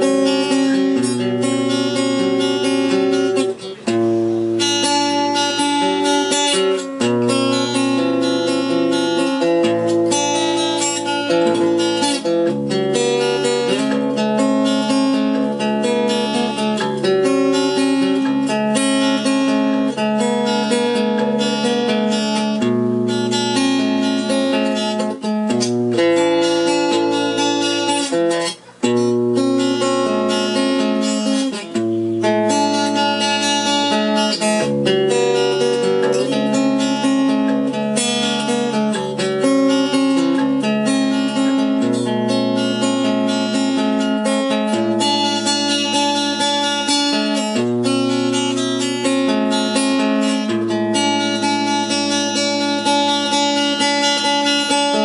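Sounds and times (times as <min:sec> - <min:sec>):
acoustic guitar chords strummed: 0:00.0 - 0:55.0.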